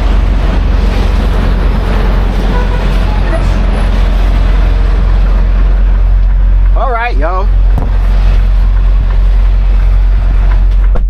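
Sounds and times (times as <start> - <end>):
diesel truck engine rumbling: 0.0 - 11.0
road and cab noise: 0.0 - 11.0.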